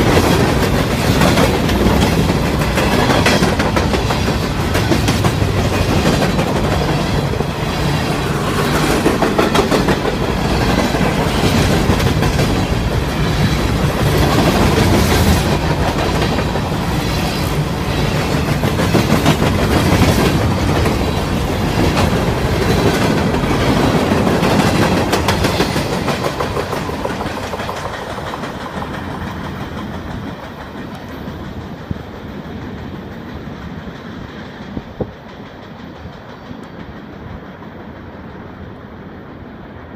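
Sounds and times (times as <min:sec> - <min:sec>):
freight train wheels clattering: 0:00.0 - 0:38.8.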